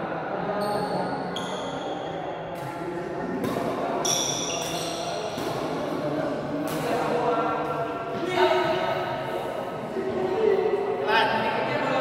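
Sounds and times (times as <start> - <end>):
murmur of voices echoing: 0.0 - 12.0.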